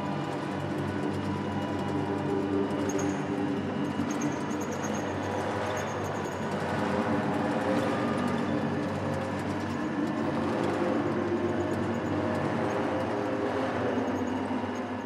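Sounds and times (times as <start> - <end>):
ambient electronic drone: 0.0 - 15.0.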